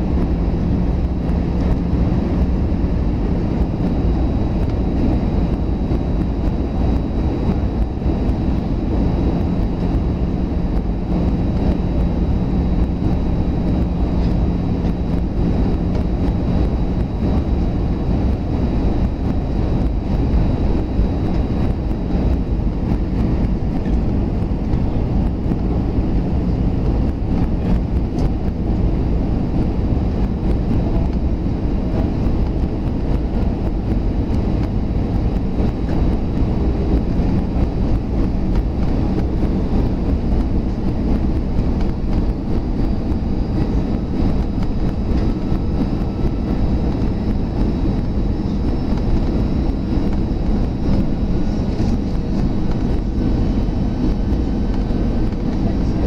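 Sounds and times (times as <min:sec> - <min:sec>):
faint high whine: 0:00.0 - 0:56.0
low rumble of jet engines: 0:00.0 - 0:56.0.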